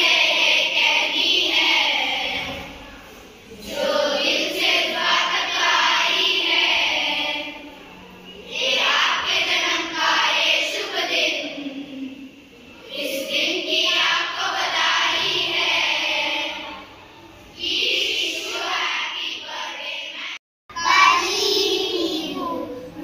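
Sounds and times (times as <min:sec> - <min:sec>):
children singing in a choir: 0:00.0 - 0:02.8, 0:03.5 - 0:07.8, 0:08.4 - 0:22.3.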